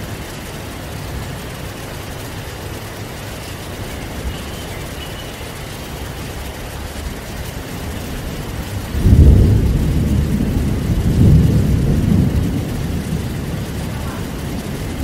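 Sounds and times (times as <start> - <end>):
heavy rain hissing: 0.0 - 15.0
thunder rumbling: 0.0 - 15.0.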